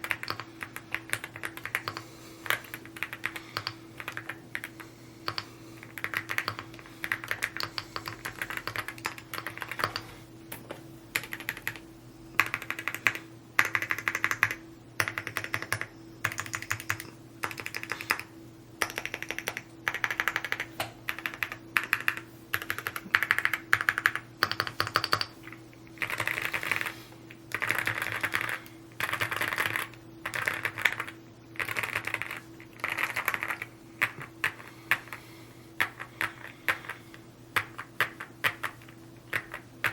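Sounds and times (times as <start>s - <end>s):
mechanical keyboard typing: 0.0s - 10.0s, 11.1s - 11.8s, 12.4s - 25.3s, 26.0s - 26.9s, 27.5s - 34.6s, 37.6s - 39.9s.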